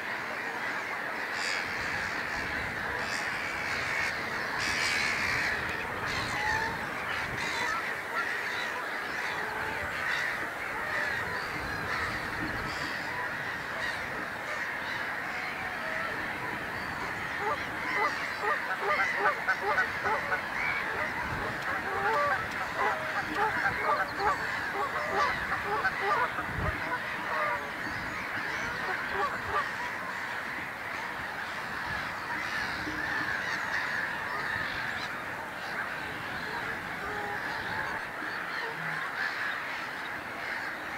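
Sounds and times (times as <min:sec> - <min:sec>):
water birds calling: 0:00.0 - 0:40.9.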